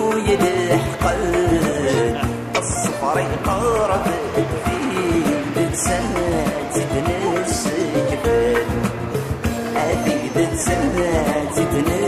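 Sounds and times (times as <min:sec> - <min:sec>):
music with melody and beat: 0:00.0 - 0:12.0.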